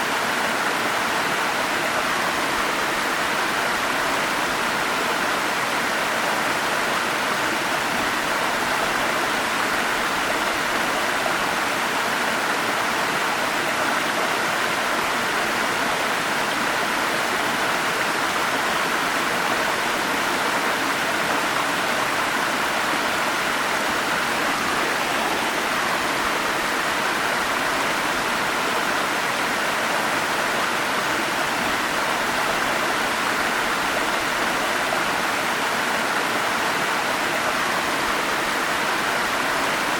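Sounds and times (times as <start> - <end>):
stream rushing over small falls: 0.0 - 39.9.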